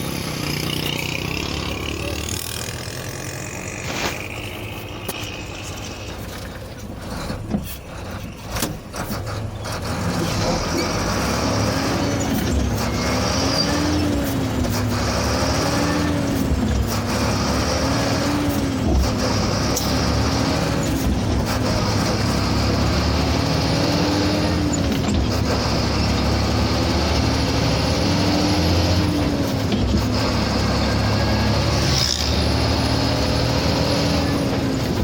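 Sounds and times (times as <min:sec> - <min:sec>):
heavy truck driving: 0:00.0 - 0:35.0.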